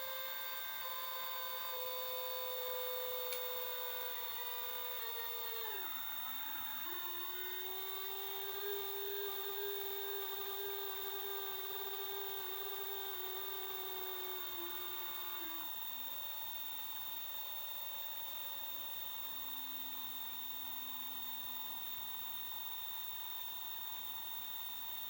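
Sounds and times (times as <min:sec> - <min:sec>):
motor whine: 0:00.0 - 0:25.0.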